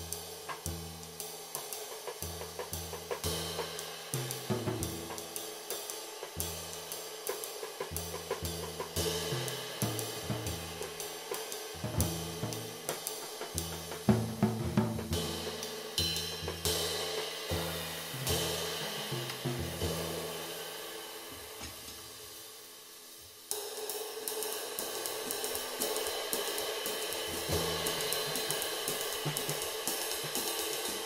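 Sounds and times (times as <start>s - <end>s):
ride cymbal strokes: 0.0s - 31.0s.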